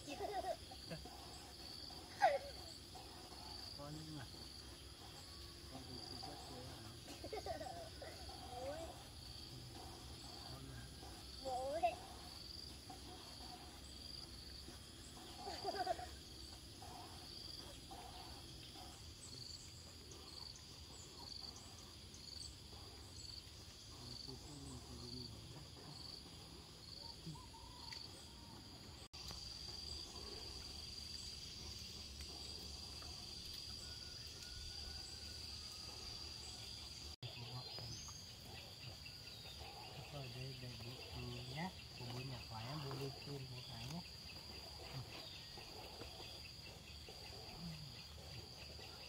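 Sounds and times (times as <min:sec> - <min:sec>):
insect trill: 0:00.0 - 0:49.0
insects chirping: 0:00.0 - 0:49.0.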